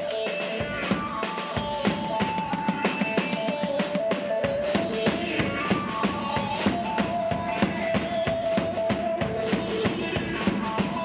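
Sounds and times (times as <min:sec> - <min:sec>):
drum kit fast rhythm: 0:00.0 - 0:11.0.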